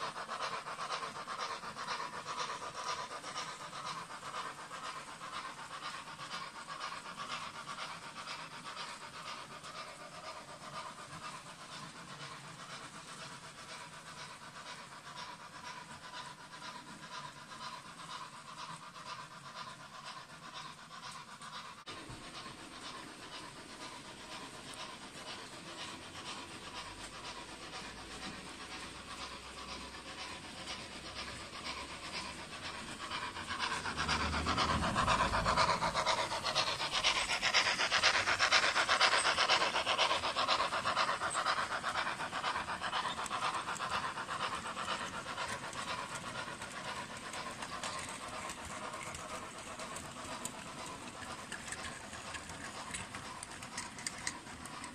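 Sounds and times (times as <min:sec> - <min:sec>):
model train wheels rattling: 0:00.0 - 0:54.9.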